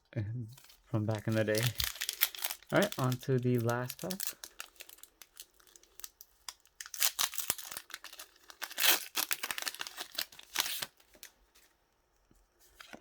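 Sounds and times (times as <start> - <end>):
foil wrapper crinkling: 0.6 - 11.4.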